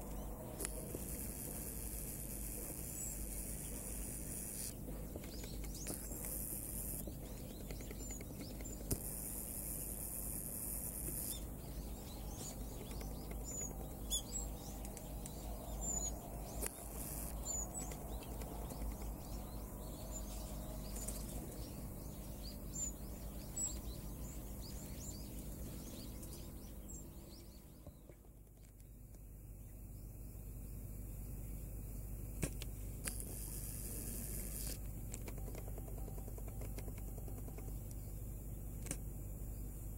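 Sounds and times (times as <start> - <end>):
wild birds chirping: 0.0 - 32.2, 33.4 - 39.9
low outdoor rumble and hiss: 0.0 - 39.9.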